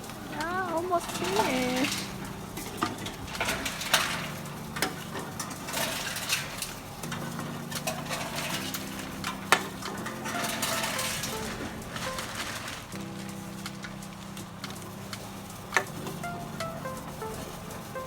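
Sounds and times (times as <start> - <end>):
containers clinking and knocking: 0.0 - 18.0
machine humming: 0.0 - 18.0.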